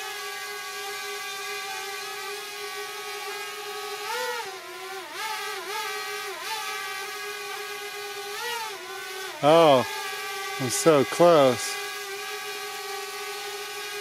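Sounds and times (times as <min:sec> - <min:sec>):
drone propellers whining: 0:00.0 - 0:13.9.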